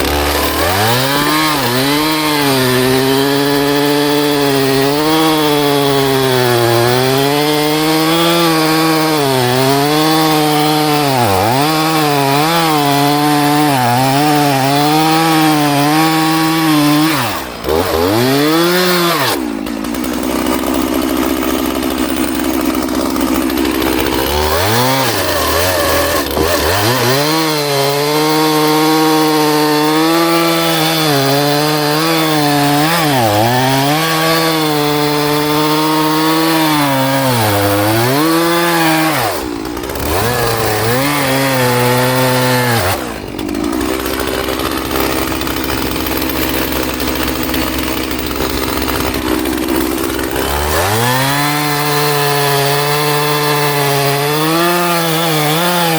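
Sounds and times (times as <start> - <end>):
chainsaw cutting wood: 0.0 - 55.9
chainsaw idling and revving: 0.0 - 55.9.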